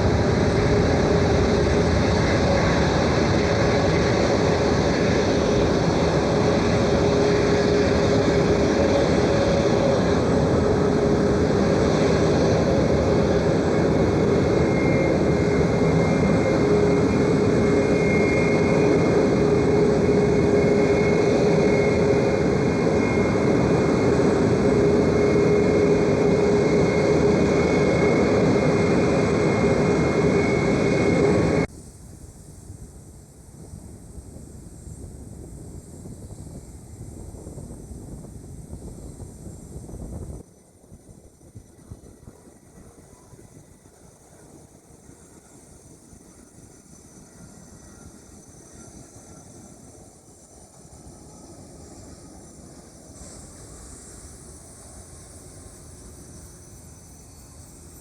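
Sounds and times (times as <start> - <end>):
high engine whine: 0.0 - 58.0
jet engines running: 0.0 - 58.0.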